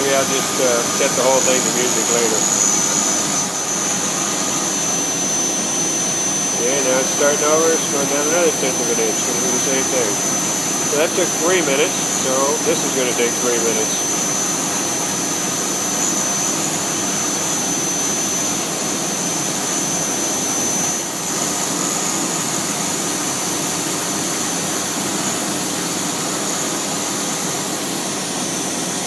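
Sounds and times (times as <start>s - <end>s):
router spindle with high whine: 0.0s - 29.0s
vacuum pump running: 0.0s - 29.0s.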